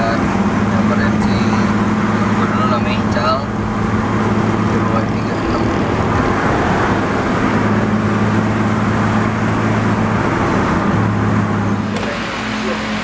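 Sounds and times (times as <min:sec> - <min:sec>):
low engine drone: 0:00.0 - 0:13.0
tyre and road noise: 0:00.0 - 0:13.0.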